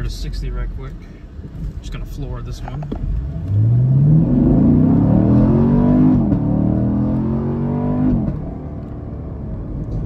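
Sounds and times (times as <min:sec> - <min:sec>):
car engine at full throttle: 0:01.3 - 0:10.0.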